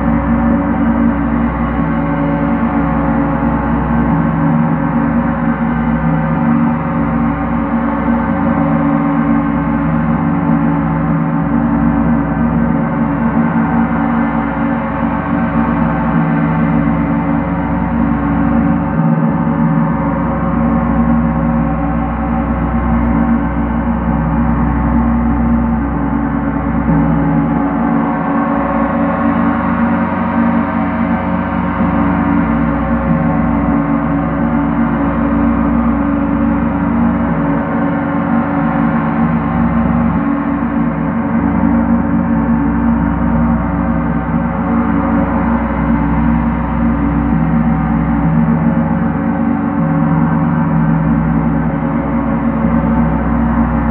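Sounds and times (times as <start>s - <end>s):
gong ringing continuously: 0.0s - 53.9s.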